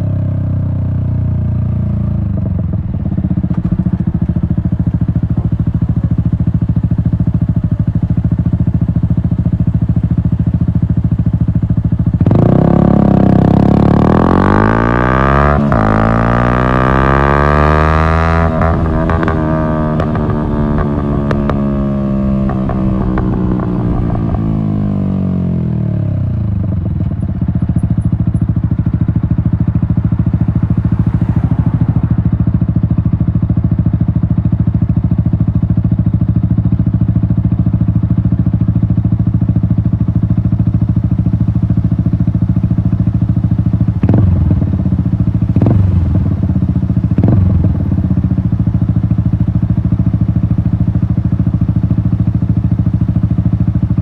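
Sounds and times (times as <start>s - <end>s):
motorcycle engine idling: 0.0s - 14.7s, 15.6s - 54.0s.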